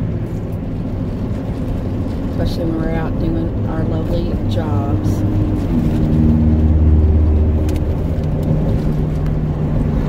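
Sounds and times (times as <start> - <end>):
car engine hum from inside: 0.0 - 10.0.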